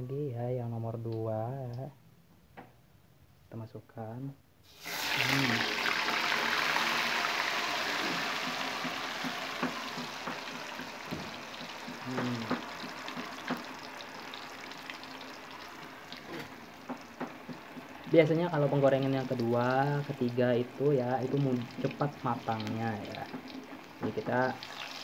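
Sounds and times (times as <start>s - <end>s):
tofu sizzling in hot oil: 4.6s - 25.0s
oil popping and crackling: 4.8s - 25.0s.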